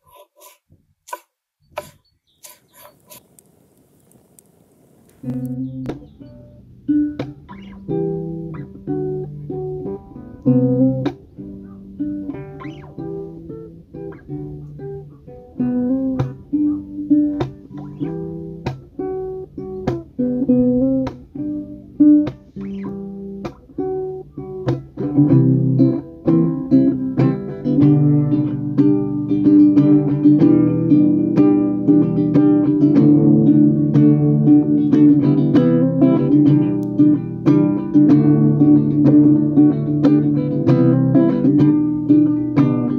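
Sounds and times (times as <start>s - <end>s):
fingerstyle acoustic guitar: 5.2s - 42.9s.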